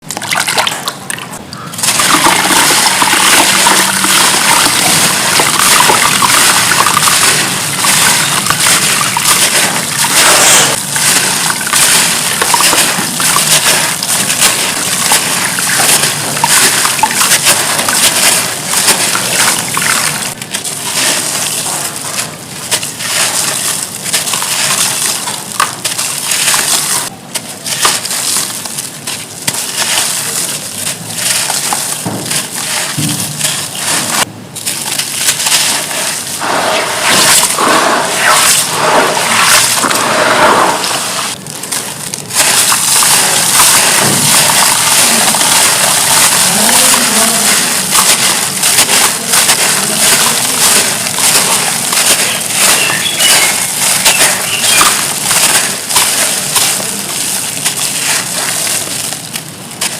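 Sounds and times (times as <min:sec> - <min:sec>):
charcoal crackling into water: 0:00.0 - 0:59.9
water sloshing: 0:00.1 - 0:59.9.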